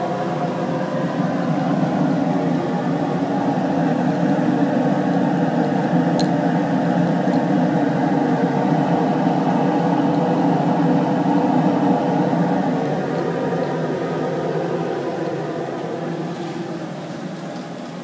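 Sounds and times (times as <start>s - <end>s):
electric fan whirring: 0.0s - 18.0s.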